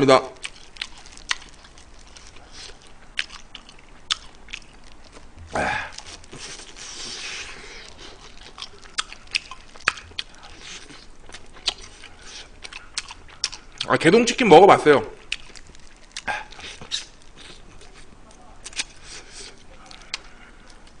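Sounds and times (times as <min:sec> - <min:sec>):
crunchy biting and chewing: 0:00.3 - 0:13.9, 0:15.2 - 0:21.0.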